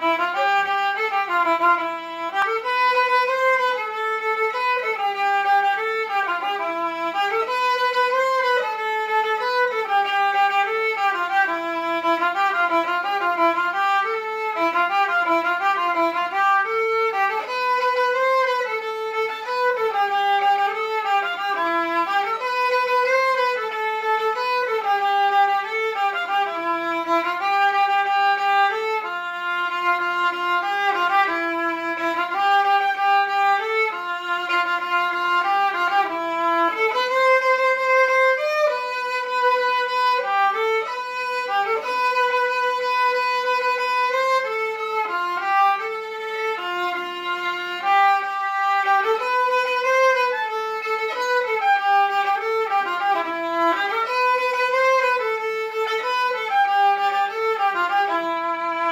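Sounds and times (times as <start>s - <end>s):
solo violin melody: 0.0s - 58.9s.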